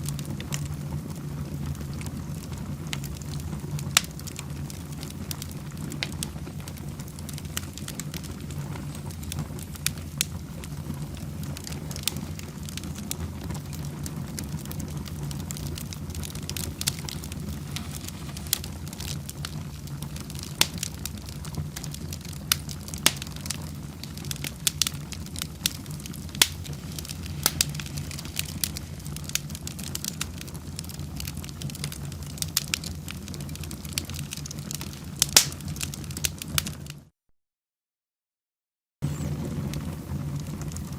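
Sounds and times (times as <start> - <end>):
low rumble of flames: 0.0 - 37.1, 39.0 - 40.9
wood fire crackling and popping: 0.0 - 37.1, 39.0 - 40.9.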